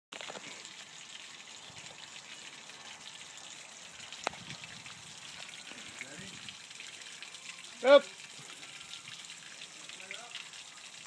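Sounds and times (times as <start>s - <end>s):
hose water splashing on ground: 0.1s - 11.0s.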